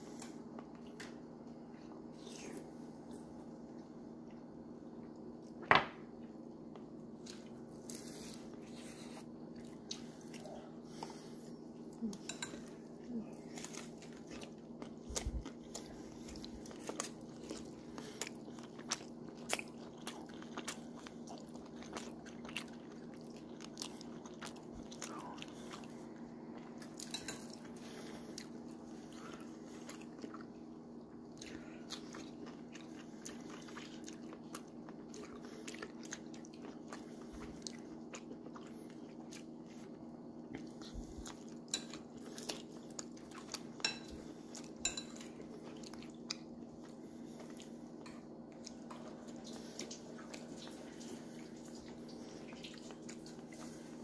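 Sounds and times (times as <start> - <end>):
steady low hum: 0.0 - 54.0
person chewing crunchy food: 0.1 - 54.0.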